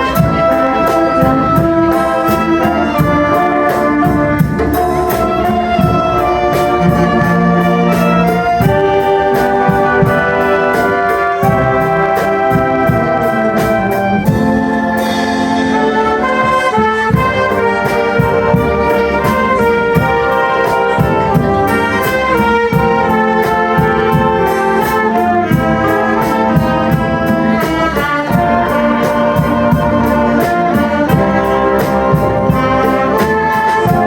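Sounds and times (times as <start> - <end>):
brass melody: 0.0 - 34.0
steady drum beat: 0.0 - 34.0.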